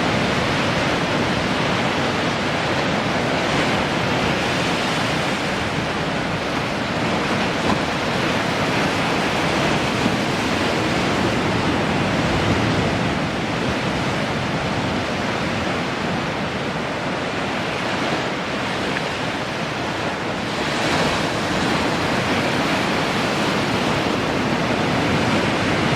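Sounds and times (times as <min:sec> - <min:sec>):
waves breaking on shore: 0:00.0 - 0:25.9.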